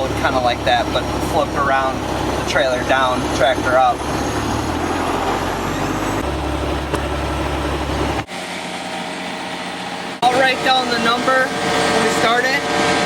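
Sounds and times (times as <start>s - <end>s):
diesel truck engine rumbling: 0.0s - 13.0s
steady hum: 0.0s - 13.0s.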